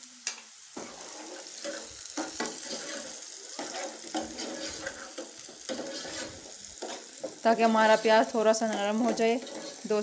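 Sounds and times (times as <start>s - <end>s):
onion sizzling in hot oil: 0.0s - 10.0s
spoon scraping a pan: 0.8s - 10.0s.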